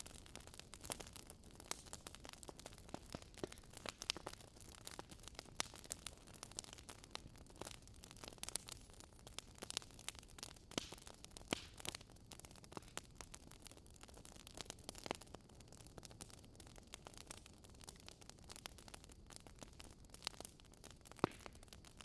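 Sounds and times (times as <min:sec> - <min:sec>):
bonfire crackling and popping: 0:00.0 - 0:22.0
soft steady hiss: 0:00.0 - 0:22.0.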